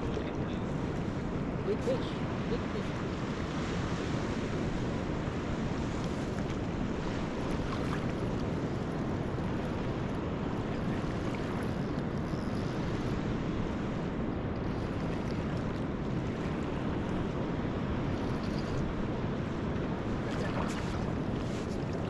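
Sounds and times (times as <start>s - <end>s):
surf washing: 0.0s - 22.0s
wind rumbling on microphone: 0.0s - 22.0s.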